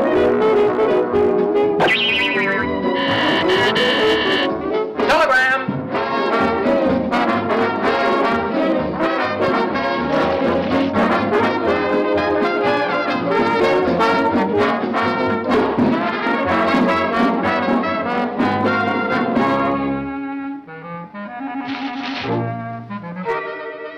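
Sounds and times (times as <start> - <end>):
orchestral cartoon music with brass: 0.0 - 23.9.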